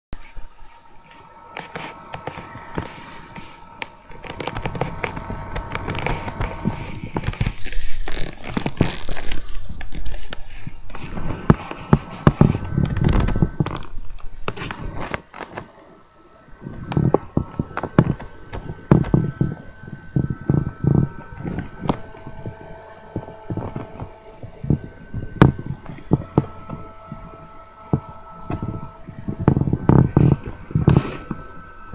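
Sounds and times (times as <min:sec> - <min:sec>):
paper rustling and scraping: 0:00.2 - 0:15.9, 0:16.6 - 0:31.6
clicks and crackles: 0:00.2 - 0:16.0, 0:16.6 - 0:31.6.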